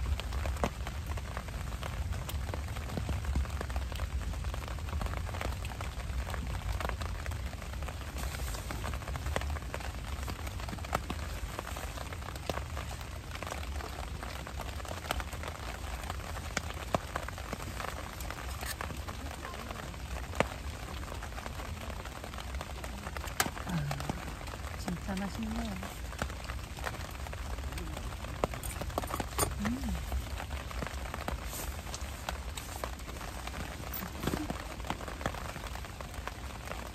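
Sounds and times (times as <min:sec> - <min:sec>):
rain on a tent: 0:00.0 - 0:36.9.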